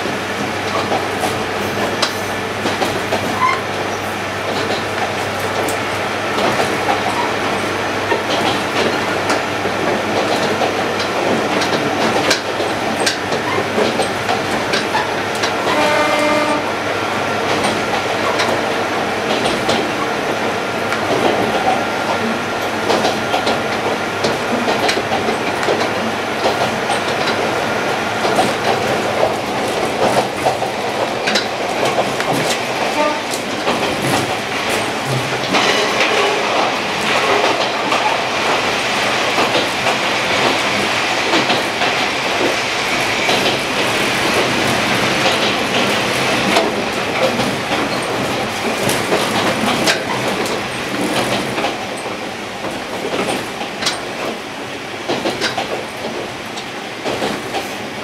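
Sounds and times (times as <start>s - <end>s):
wheels clicking over rail joints: 0.0s - 16.7s, 17.4s - 58.0s
railcar running noise: 0.0s - 58.0s.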